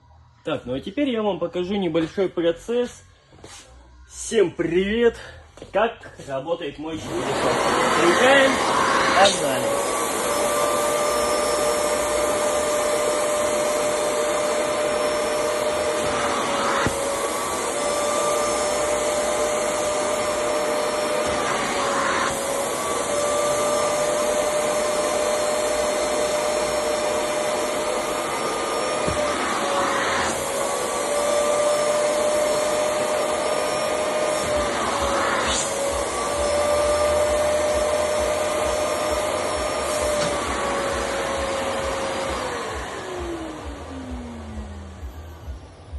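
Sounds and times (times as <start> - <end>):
vacuum cleaner running: 6.8 - 45.9.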